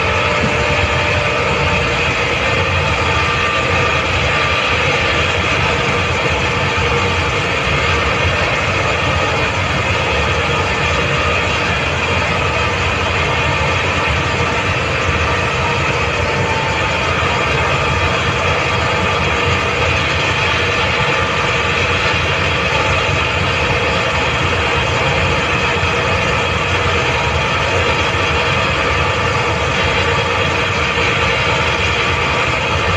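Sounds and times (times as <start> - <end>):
air compressor running: 0.0 - 32.9.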